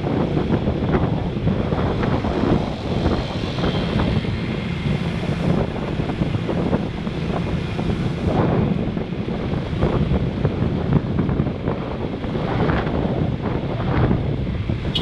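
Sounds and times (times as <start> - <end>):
motorbike engine noise: 0.0 - 15.0
road traffic: 0.0 - 15.0
wind rushing over microphone: 0.0 - 15.0.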